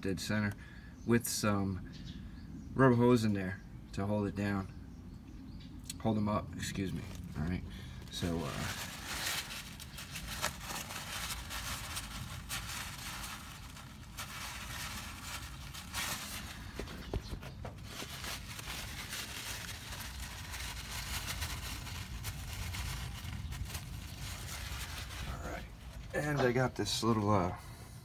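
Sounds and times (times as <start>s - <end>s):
steady low rumble: 3.5s - 28.0s.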